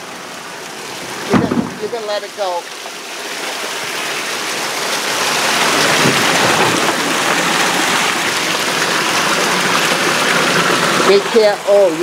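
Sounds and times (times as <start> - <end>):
shallow water rushing in a tube: 0.0 - 12.0.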